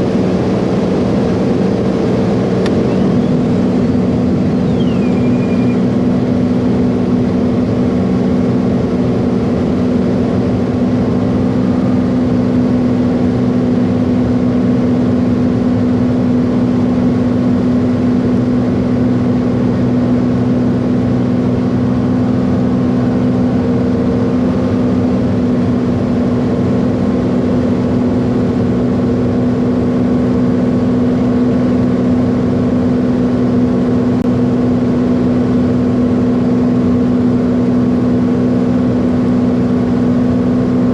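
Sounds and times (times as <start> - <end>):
propeller aircraft engine droning: 0.0 - 40.9.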